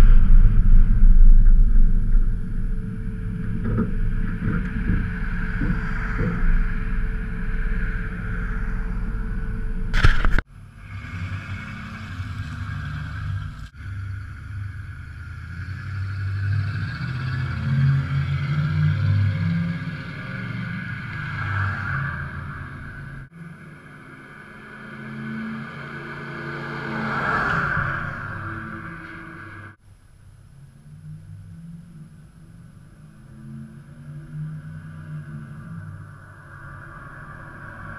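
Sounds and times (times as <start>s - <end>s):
truck exhaust rumble: 0.0s - 37.9s
cars passing with tyre hiss: 5.2s - 29.8s, 30.8s - 37.9s.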